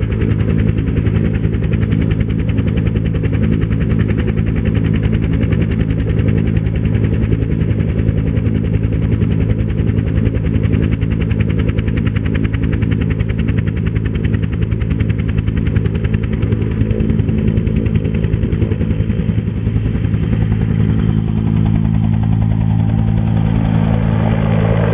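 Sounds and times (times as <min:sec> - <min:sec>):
helicopter rotor and turbine engine: 0:00.0 - 0:24.9.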